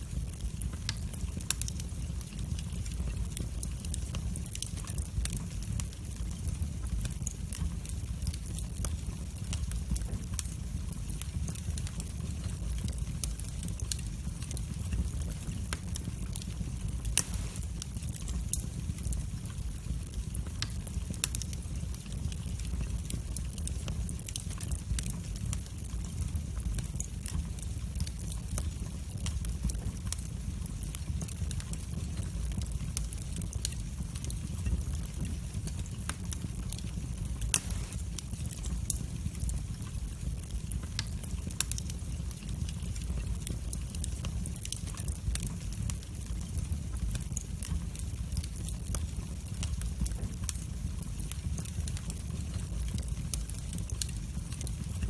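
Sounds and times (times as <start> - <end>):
fire crackling and popping: 0.0 - 55.0
fire low rumble: 0.0 - 55.0.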